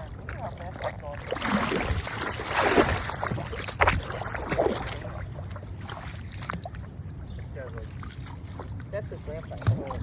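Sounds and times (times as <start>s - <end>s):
wading through water splashing: 0.0s - 10.0s.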